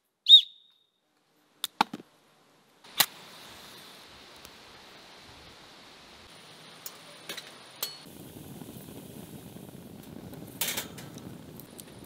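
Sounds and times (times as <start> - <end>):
wood fire burning: 2.1 - 12.0.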